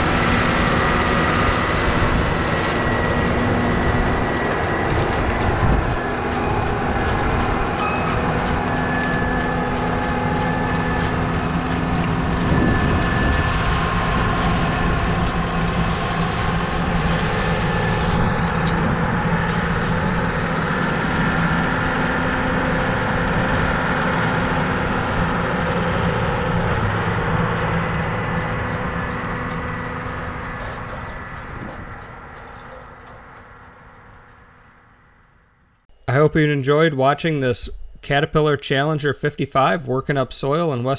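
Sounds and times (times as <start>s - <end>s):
tractor diesel engine running: 0.0s - 36.2s.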